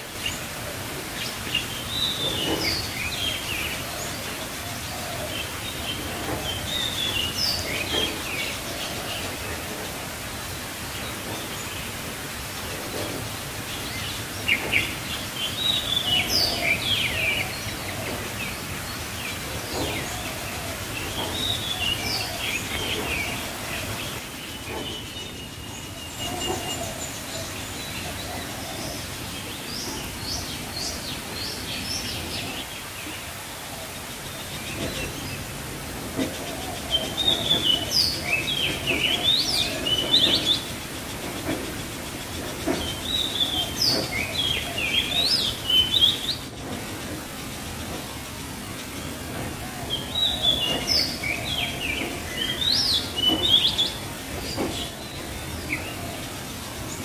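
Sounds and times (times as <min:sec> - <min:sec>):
songbirds chirping: 0:00.0 - 0:57.0
steady background hiss: 0:00.0 - 0:57.0.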